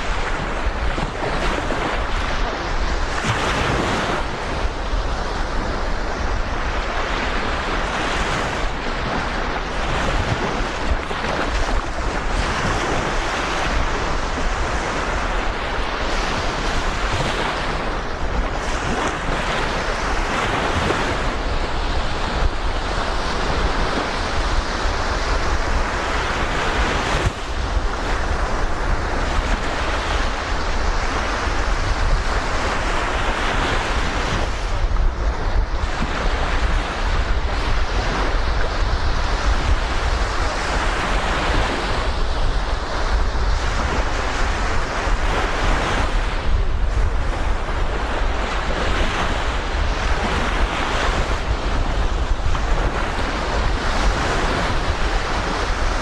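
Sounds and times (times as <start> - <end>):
sea waves washing onto beach: 0.0 - 56.0
wind buffeting microphone: 0.0 - 56.0.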